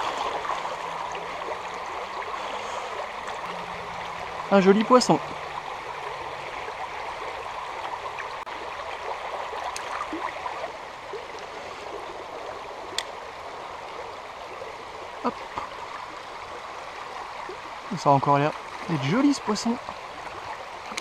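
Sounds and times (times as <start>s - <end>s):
stream flowing over gravel: 0.0s - 21.0s.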